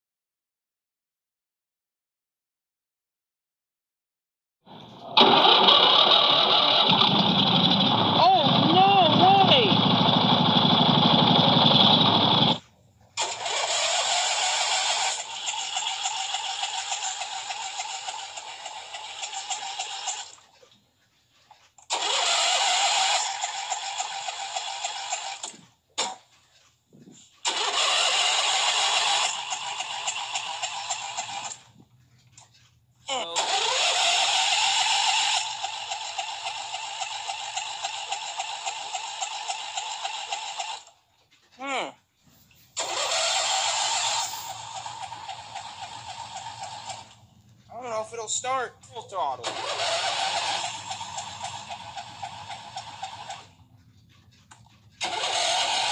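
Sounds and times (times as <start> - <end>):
lawn tractor engine running: 4.7 - 41.6, 42.6 - 55.9.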